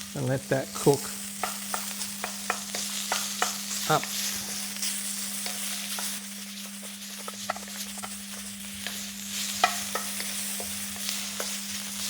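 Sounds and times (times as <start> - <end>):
meat sizzling in a wok: 0.0 - 12.0
utensil clicking against wok: 1.4 - 12.0.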